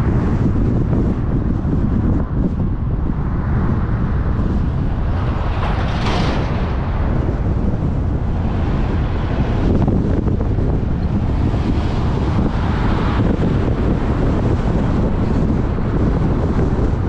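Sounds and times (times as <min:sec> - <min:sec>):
road and traffic noise: 0:00.0 - 0:17.0
wind on microphone: 0:00.0 - 0:17.0.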